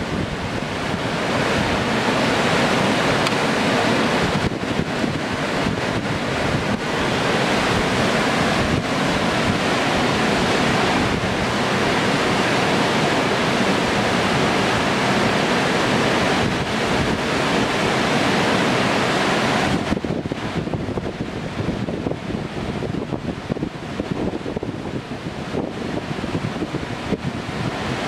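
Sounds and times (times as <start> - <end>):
whitewater rushing: 0.0 - 28.0.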